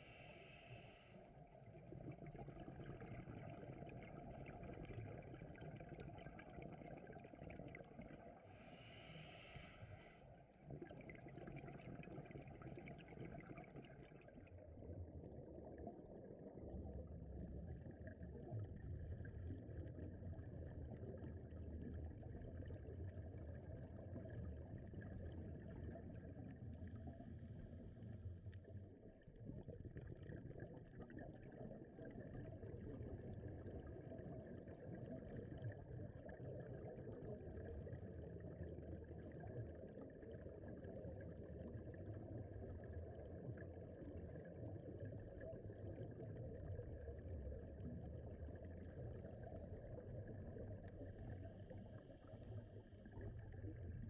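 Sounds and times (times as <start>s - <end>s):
muffled water noise: 0.0s - 54.0s.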